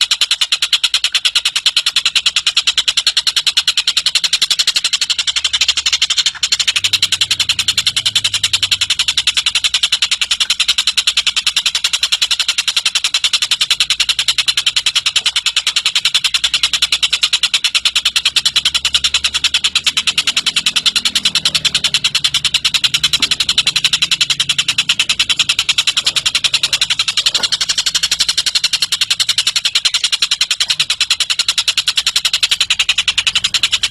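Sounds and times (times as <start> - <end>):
bird chattering trill: 0.0 - 33.9.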